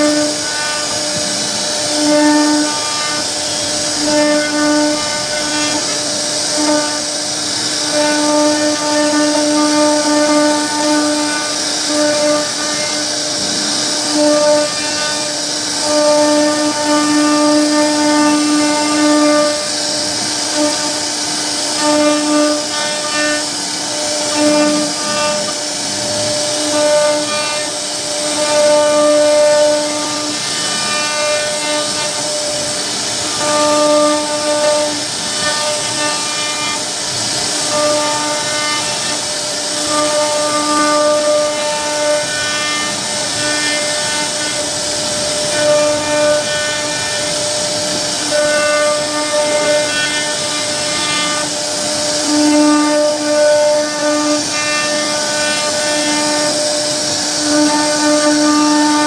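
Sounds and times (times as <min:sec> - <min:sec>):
router spindle hiss and whine: 0:00.0 - 0:59.0.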